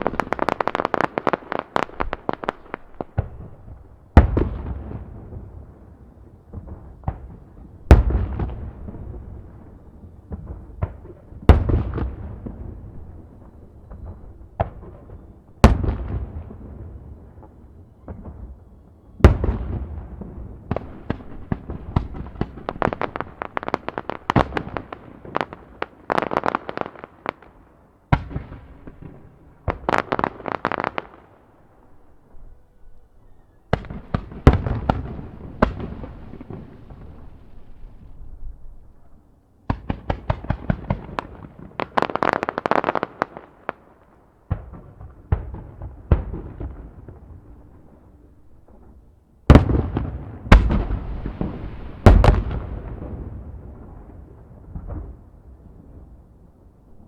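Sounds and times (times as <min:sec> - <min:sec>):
fireworks bangs and crackles: 0:00.0 - 0:31.7, 0:33.7 - 0:38.3, 0:39.7 - 0:57.0.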